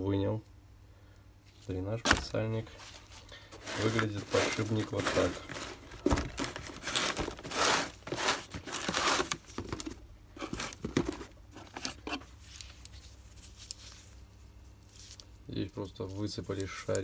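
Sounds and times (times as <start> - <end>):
cardboard and gloves crinkling: 1.6 - 17.0.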